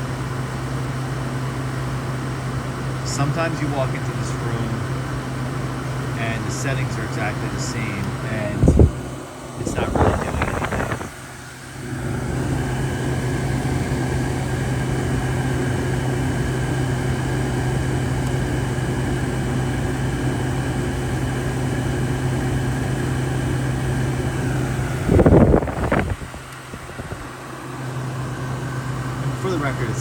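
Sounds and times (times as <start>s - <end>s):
window air conditioner running: 0.0s - 30.0s.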